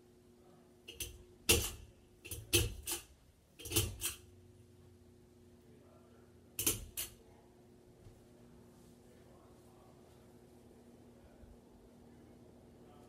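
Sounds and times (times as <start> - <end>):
fan motor humming: 0.0 - 13.0.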